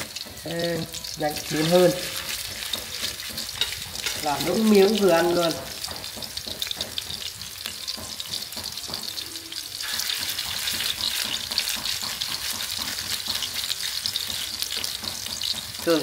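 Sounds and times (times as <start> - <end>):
meat sizzling in a pan: 0.0 - 16.0
spoon tapping: 0.2 - 15.9.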